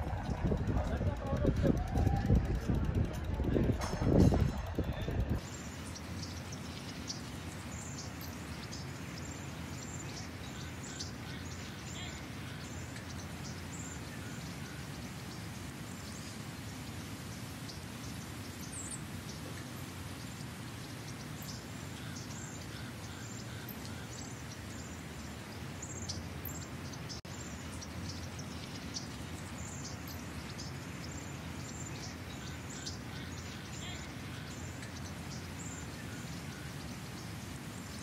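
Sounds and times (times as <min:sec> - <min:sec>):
low outdoor ambient rumble: 0:00.0 - 0:38.0
small birds chirping: 0:03.2 - 0:38.0.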